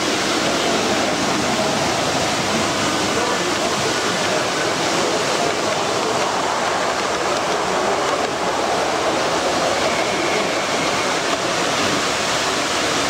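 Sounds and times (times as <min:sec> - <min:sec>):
exhibition hall crowd noise: 0:00.0 - 0:13.0
model train wheels rolling: 0:00.0 - 0:13.0.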